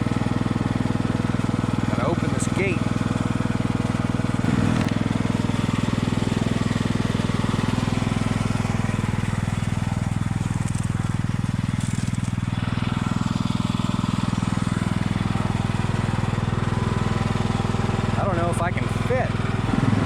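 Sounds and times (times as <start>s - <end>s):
riding lawn mower engine: 0.0s - 20.0s.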